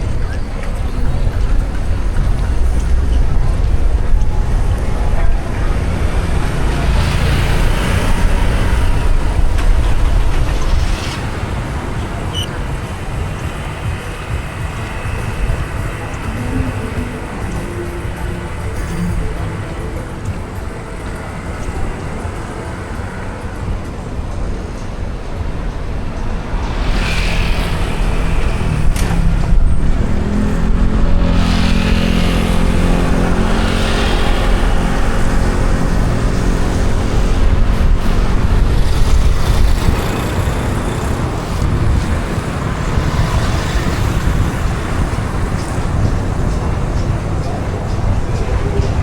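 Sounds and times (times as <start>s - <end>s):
passing vehicle engine hum: 0.0s - 49.0s
traffic on wet road: 0.0s - 49.0s
tyres hissing on wet road: 0.0s - 49.0s.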